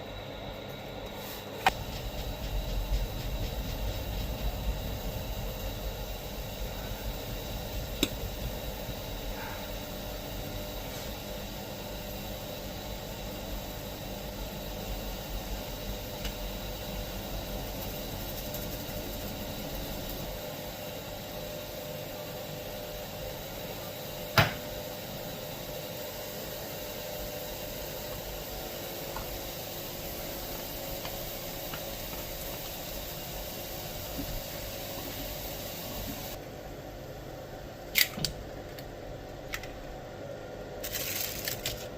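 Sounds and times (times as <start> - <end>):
mechanical hum with hiss: 0.0 - 41.9.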